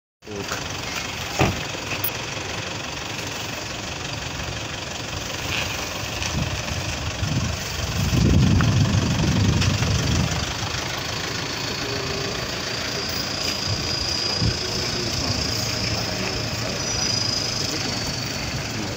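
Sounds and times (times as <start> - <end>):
suv engine running: 0.2 - 18.9.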